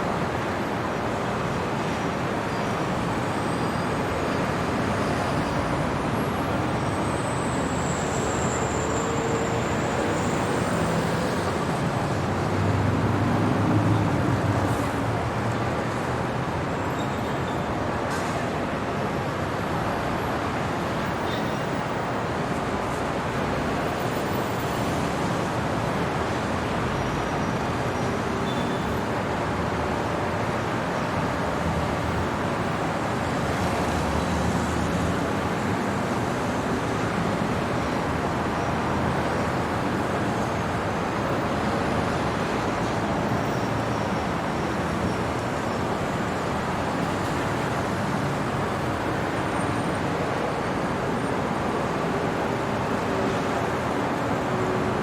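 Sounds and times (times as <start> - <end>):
city traffic: 0.0 - 55.0.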